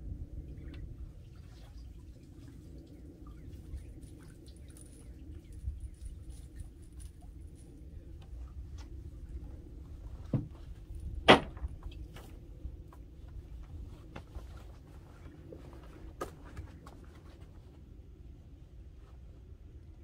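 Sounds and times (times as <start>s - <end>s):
low wind rumble: 0.0s - 20.0s.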